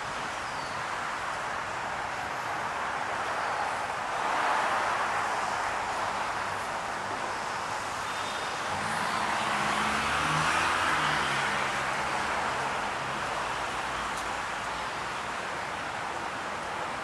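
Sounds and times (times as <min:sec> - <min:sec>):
road traffic hiss: 0:00.0 - 0:17.0.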